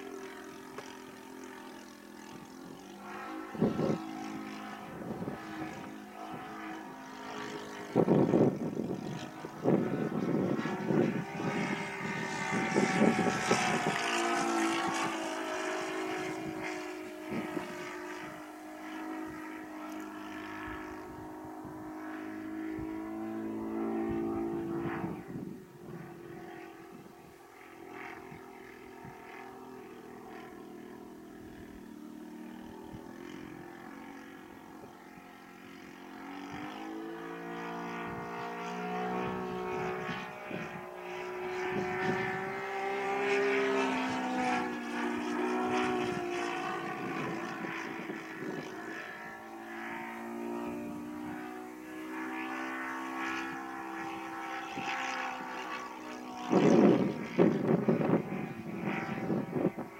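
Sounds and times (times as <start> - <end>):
model plane engine droning: 0.0 - 59.9.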